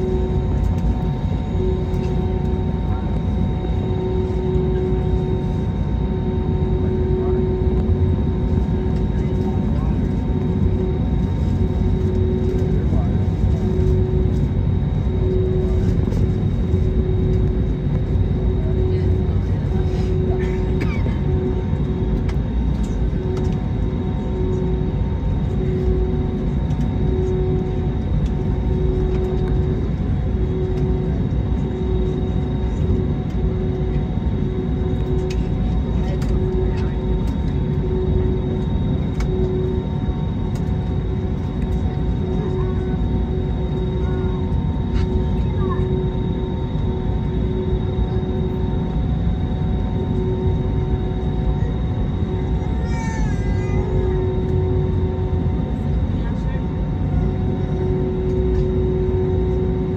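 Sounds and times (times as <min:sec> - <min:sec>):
aircraft engine rumble and hum: 0:00.0 - 0:59.9.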